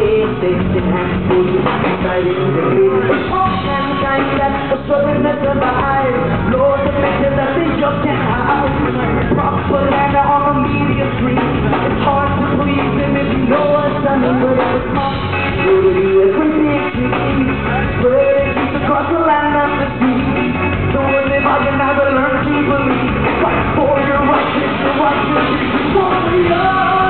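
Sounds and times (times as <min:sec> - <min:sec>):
live band playing rock music: 0:00.0 - 0:27.0
singer singing into microphone: 0:00.0 - 0:27.0.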